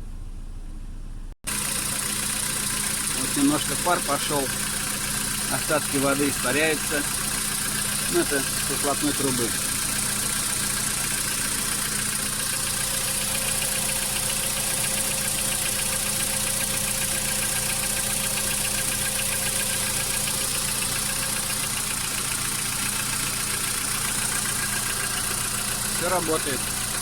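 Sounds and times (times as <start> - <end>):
car engine idling with ticking: 1.5 - 27.0.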